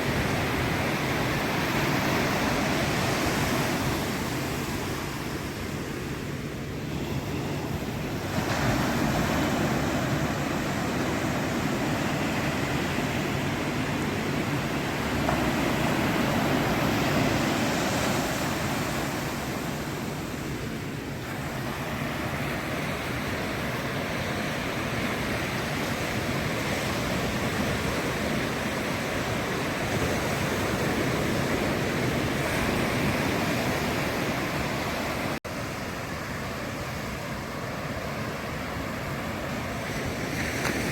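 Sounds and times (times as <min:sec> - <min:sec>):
ocean waves breaking on sand: 0:00.0 - 0:40.9.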